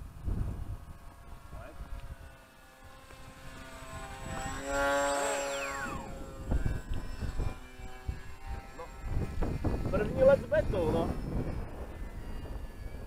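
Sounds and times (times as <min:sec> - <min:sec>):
model airplane motor whining past: 0:00.0 - 0:13.0.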